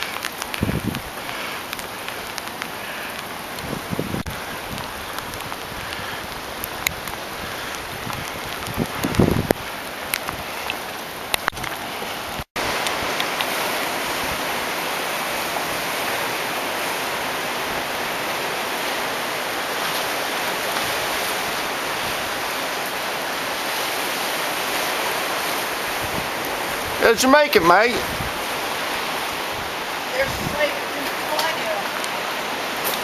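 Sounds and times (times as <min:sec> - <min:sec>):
surf on rocky shore: 0:00.0 - 0:33.0.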